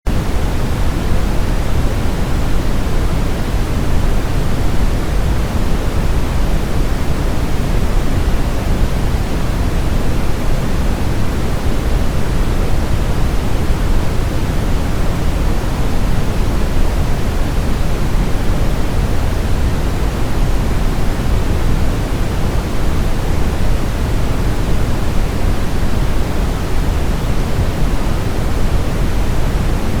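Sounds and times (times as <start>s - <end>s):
pink noise hiss: 0.1s - 30.0s.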